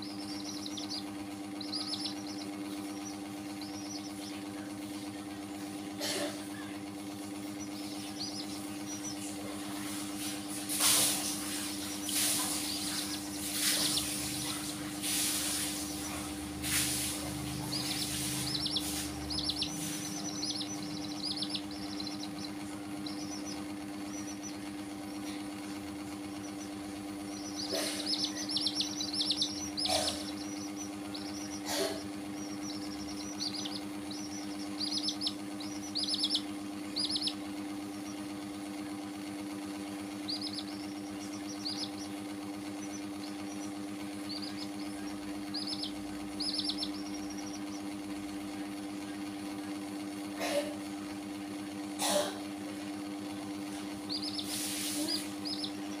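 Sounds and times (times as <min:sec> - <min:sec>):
low hum: 0:00.0 - 0:48.6
baby chicks peeping: 0:00.0 - 0:56.0.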